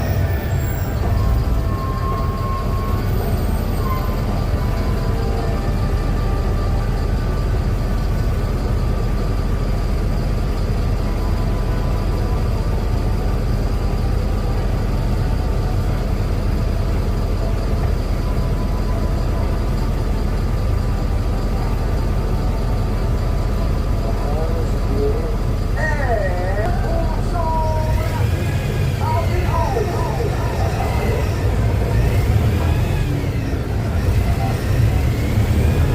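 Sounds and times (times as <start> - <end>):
bus diesel engine droning: 0.0 - 35.9.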